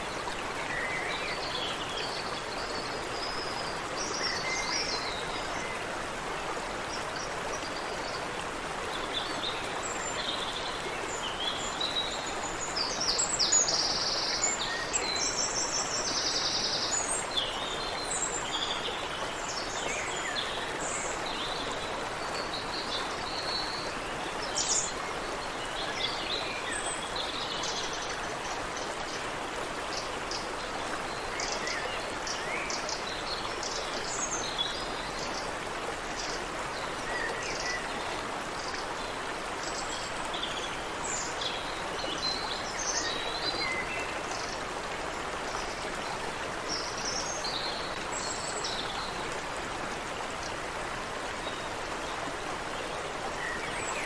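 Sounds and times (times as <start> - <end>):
songbirds calling and singing: 0.0 - 54.0.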